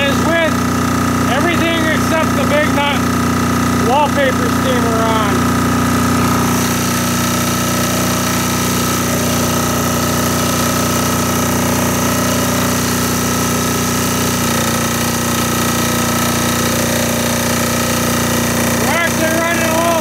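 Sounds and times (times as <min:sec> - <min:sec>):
diesel generator engine running: 0:00.0 - 0:20.0.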